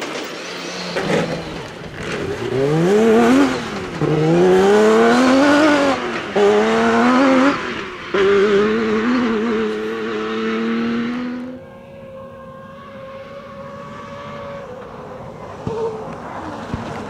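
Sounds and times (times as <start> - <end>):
distant car engine: 0.0 - 17.0
rally car engine: 0.0 - 17.0.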